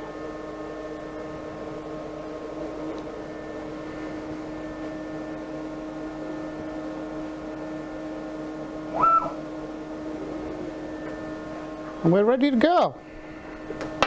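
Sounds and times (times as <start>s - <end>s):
cnc router humming: 0.0s - 14.0s
stepper motor whine: 0.0s - 14.0s.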